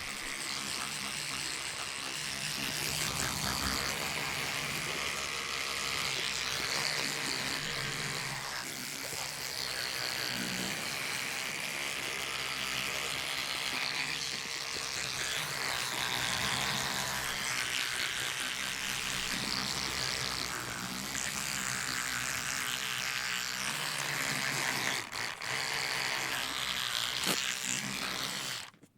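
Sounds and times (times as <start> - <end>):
electric toothbrush motor buzz: 0.0 - 28.9
wet scrubbing of teeth: 0.0 - 28.9.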